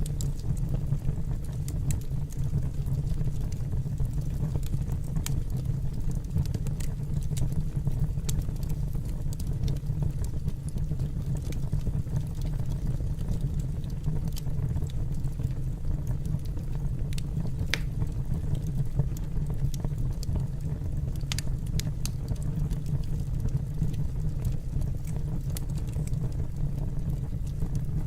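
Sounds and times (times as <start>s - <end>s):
fire crackling: 0.0s - 28.0s
fire rumbling: 0.0s - 28.0s.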